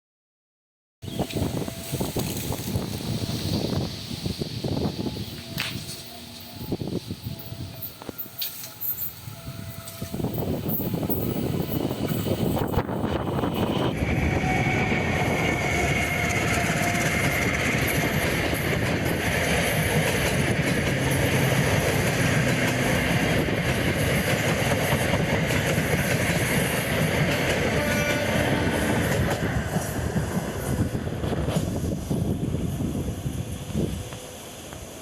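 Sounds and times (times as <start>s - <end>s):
train rumbling past: 1.0s - 35.0s.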